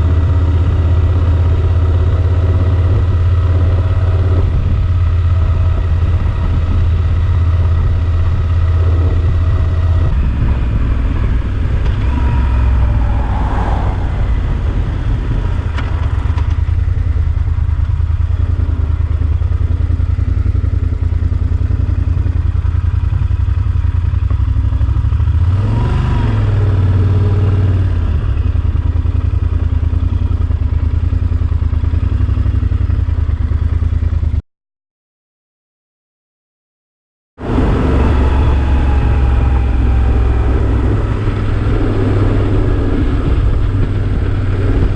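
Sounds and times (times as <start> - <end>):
motorcycle engine running: 0.0 - 34.4, 37.4 - 44.9.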